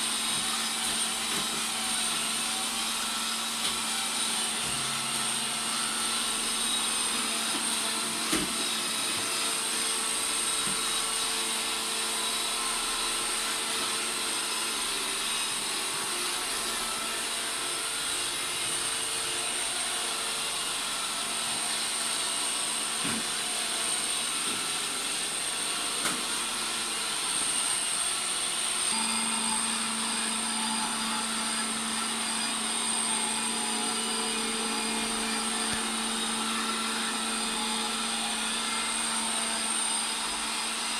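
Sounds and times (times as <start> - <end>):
robot vacuum cleaner running: 0.0 - 40.9.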